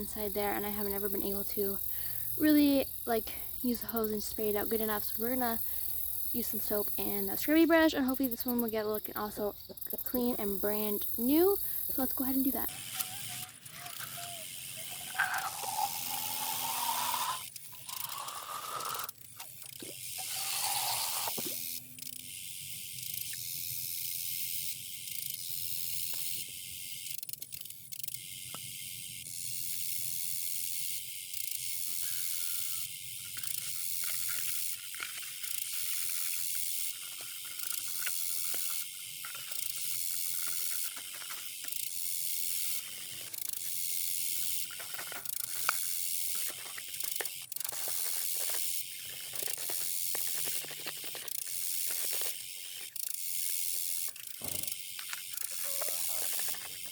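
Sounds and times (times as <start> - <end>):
garden hose spraying water: 0.0 - 21.8, 31.7 - 56.9.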